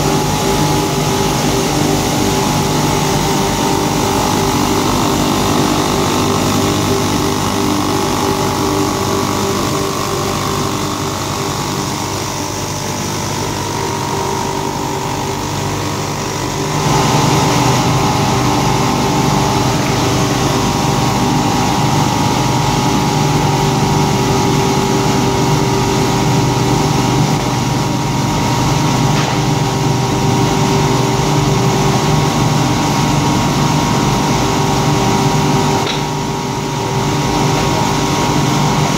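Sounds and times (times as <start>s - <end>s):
polishing machine humming: 0.0s - 38.9s.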